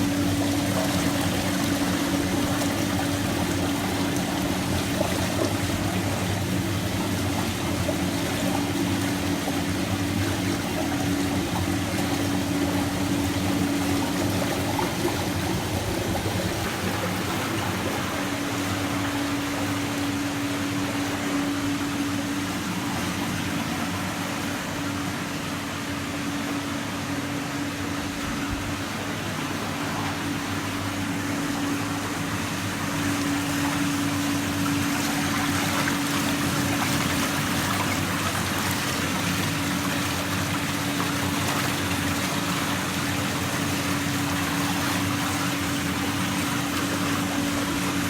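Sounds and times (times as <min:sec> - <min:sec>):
pump motor humming: 0:00.0 - 0:48.0
water churning and splashing: 0:00.0 - 0:48.0.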